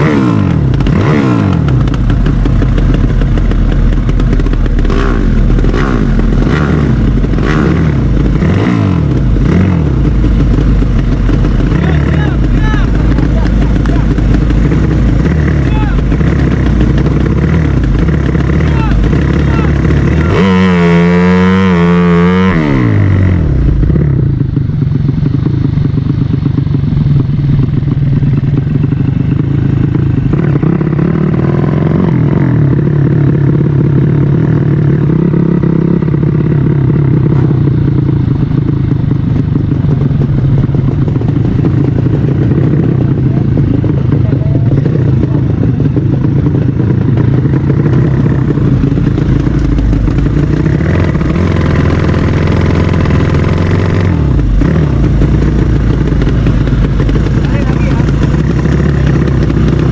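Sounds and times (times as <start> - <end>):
motorcycle engine revving and idling: 0.0 - 59.9.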